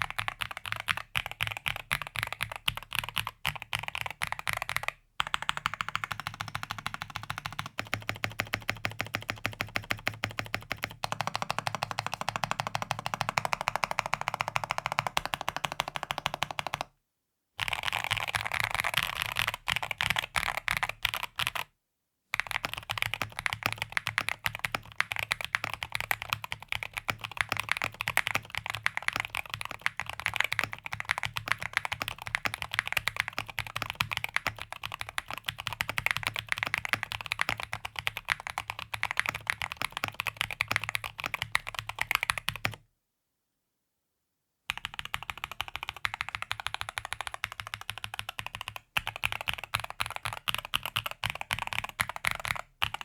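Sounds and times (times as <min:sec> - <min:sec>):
mechanical keyboard typing: 0:00.0 - 0:16.9, 0:17.6 - 0:21.6, 0:22.4 - 0:42.8, 0:44.7 - 0:53.0.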